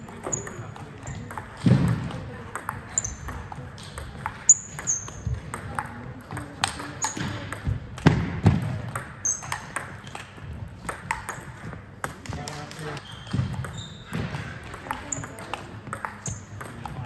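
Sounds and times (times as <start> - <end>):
table tennis ball clicking: 0.1 - 17.0.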